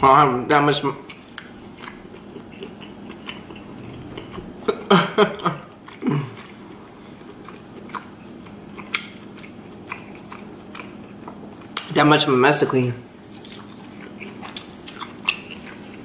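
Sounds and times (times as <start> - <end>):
person chewing with wet smacking: 1.0 - 12.0, 12.7 - 16.0.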